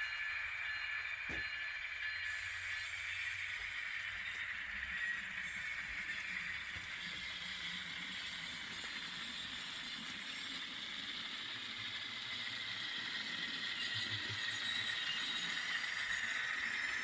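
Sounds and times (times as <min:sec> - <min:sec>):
model train whirring and rattling: 0:00.0 - 0:17.0.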